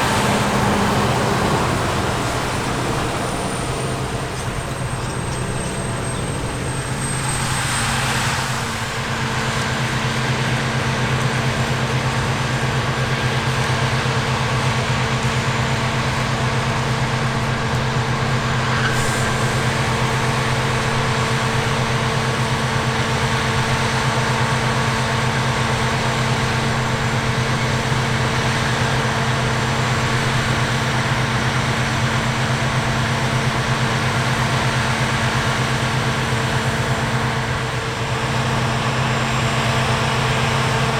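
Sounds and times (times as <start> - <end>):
diesel harvest machinery running: 0.0 - 40.9.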